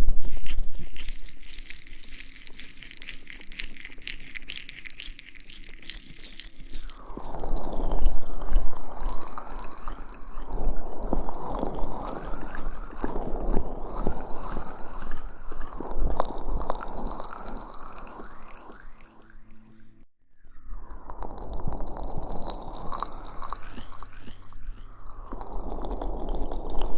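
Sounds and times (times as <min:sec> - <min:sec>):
wet gel squishing on microphone: 0:00.0 - 0:20.0, 0:20.8 - 0:26.9.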